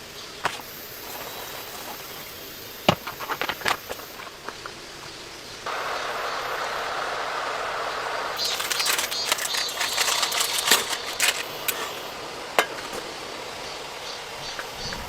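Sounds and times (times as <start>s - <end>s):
dense hiss: 0.0s - 15.0s
rain hissing: 0.0s - 15.0s.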